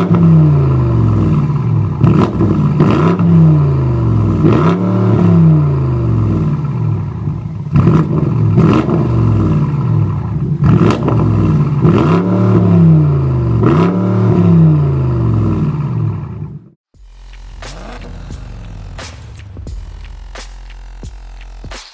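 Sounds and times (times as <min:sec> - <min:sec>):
car engine revving: 0:00.0 - 0:21.7
exhaust cracks: 0:00.0 - 0:21.8.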